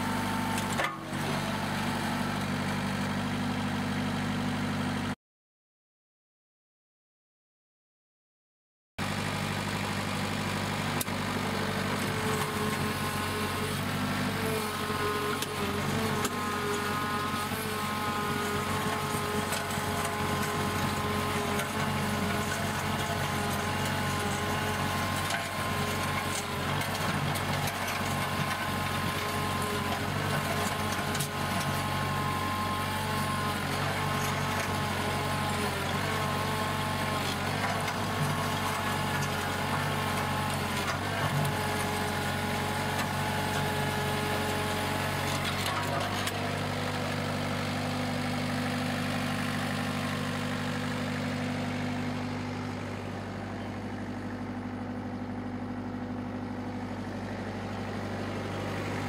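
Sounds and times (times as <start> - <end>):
tractor engine running: 0.0 - 5.1, 9.0 - 59.0.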